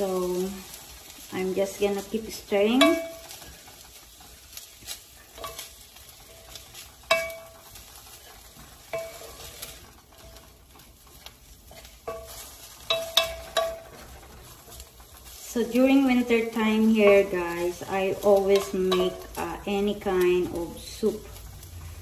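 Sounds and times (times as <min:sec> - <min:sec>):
meat sizzling in oil: 0:00.0 - 0:22.0.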